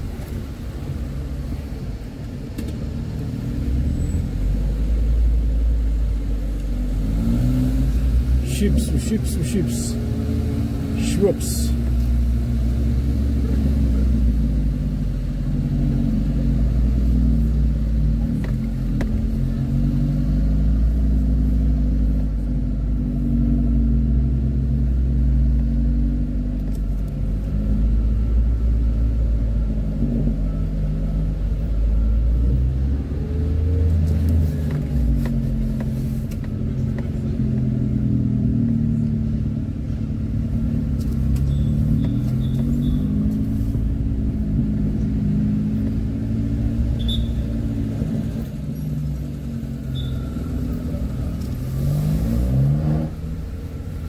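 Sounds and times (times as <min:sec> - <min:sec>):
car engine: 0:00.0 - 0:54.0
road rumble: 0:00.0 - 0:54.0.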